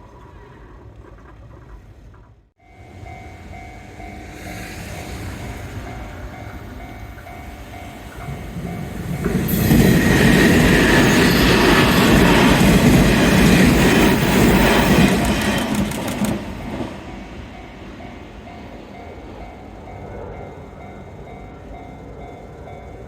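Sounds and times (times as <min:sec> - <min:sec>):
electric train passing: 0:00.1 - 0:23.0.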